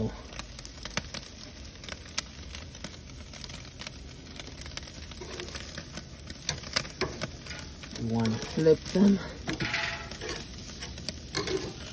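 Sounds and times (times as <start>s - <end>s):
charcoal crackles and pops: 0.0s - 11.9s
steaks sizzling on a grill: 0.0s - 11.9s.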